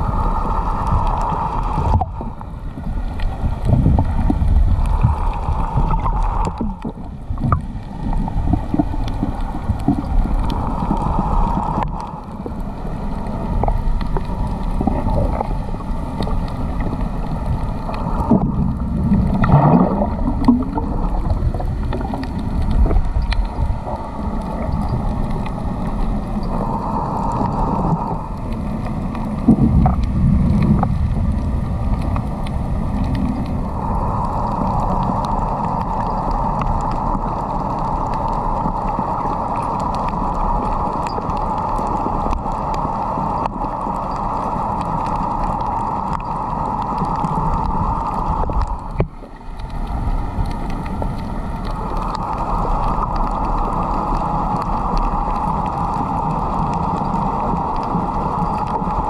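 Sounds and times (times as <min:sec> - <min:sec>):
mid-pitched hum: 0:00.0 - 0:59.0
water rumbling and gurgling: 0:00.0 - 0:59.0.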